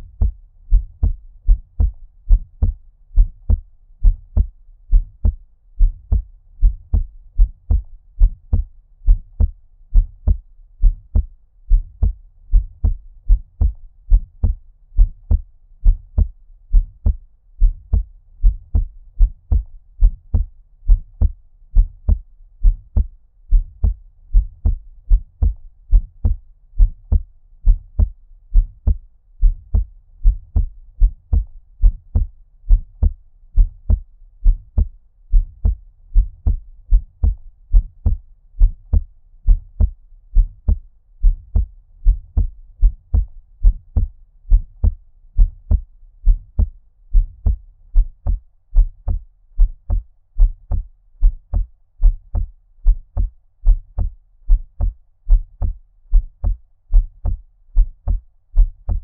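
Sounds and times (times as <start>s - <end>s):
muffled heartbeat thumps: 0.0s - 59.0s.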